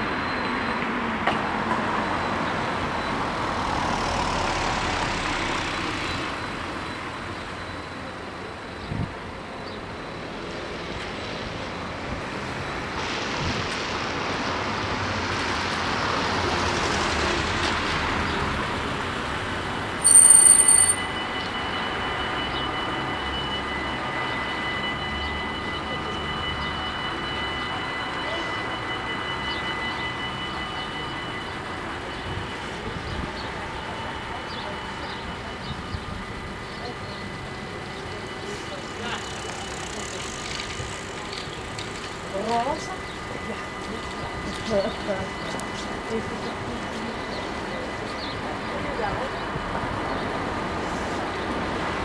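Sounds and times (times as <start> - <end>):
level crossing warning bells: 0.0 - 52.0
road traffic passing: 0.0 - 52.0.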